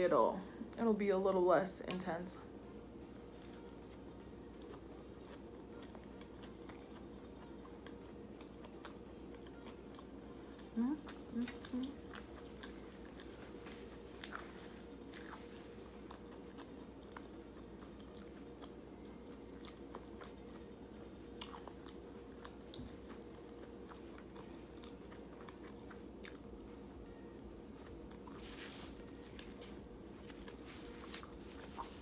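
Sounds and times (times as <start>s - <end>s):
faint steady hum: 0.0s - 32.0s
person chewing food: 3.3s - 32.0s.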